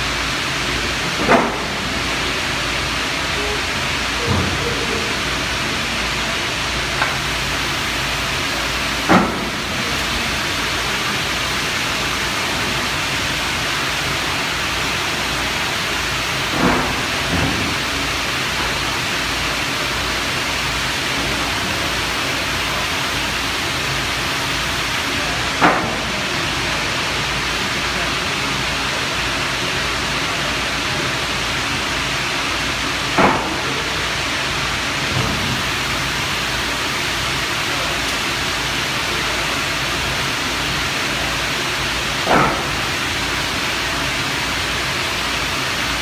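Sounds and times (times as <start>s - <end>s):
industrial machinery hissing: 0.0s - 46.0s.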